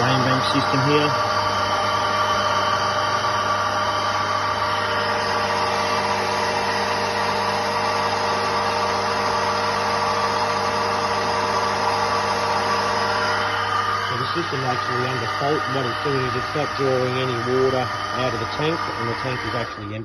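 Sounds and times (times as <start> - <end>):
water pump motor humming: 0.0 - 20.0.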